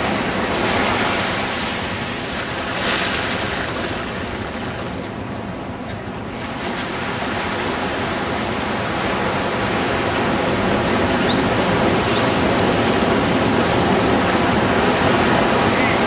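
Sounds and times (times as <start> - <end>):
ocean surf washing up beach: 0.0 - 16.0.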